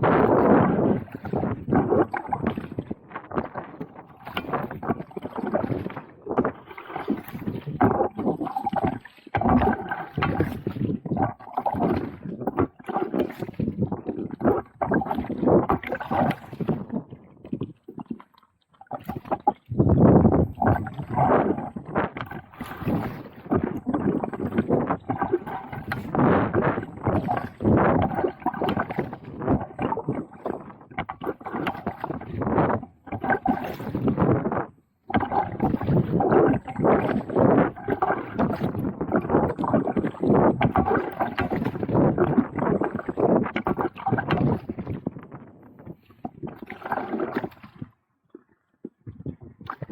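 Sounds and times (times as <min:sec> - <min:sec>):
kayak paddle splashing water: 0:00.0 - 0:49.9.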